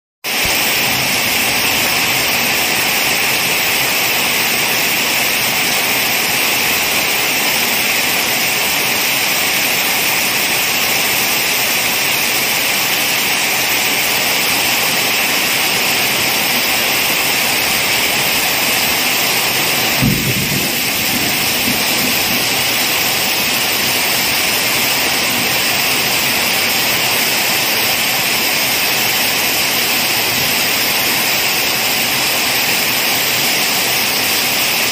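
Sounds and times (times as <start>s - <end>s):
heavy rain pattering on leaves: 0.3s - 34.9s.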